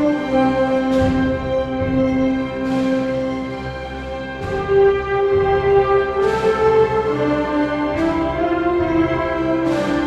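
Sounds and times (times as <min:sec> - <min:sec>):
orchestra playing held chords: 0:00.0 - 0:10.0.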